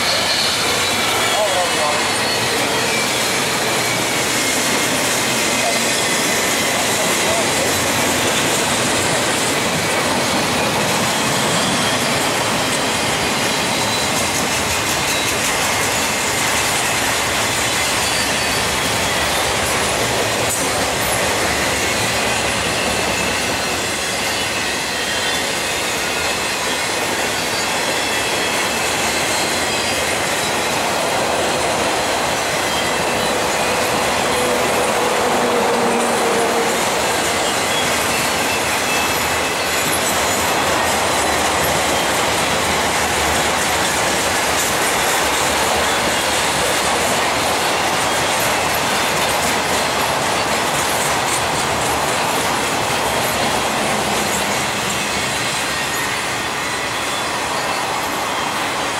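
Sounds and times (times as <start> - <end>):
train wheels rumbling on rail: 0.0 - 58.9
wheels squealing: 0.0 - 58.9.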